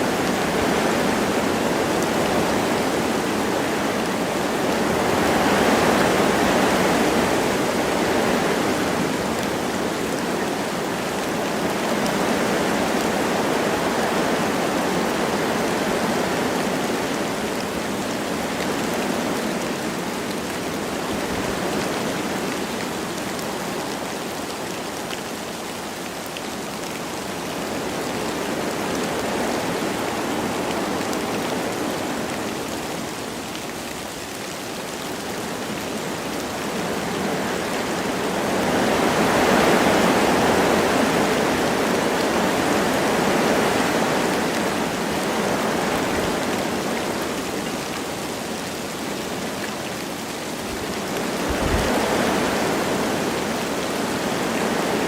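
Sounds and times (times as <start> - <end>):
light rain falling: 0.0 - 55.0
wind rushing through trees: 0.0 - 55.0.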